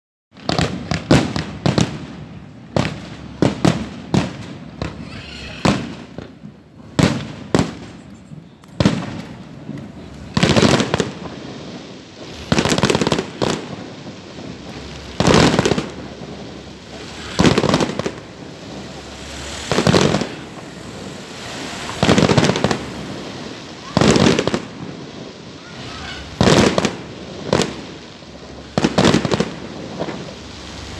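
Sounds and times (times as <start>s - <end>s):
fireworks bangs: 0.3s - 30.9s
fireworks rapid reports: 0.3s - 30.9s.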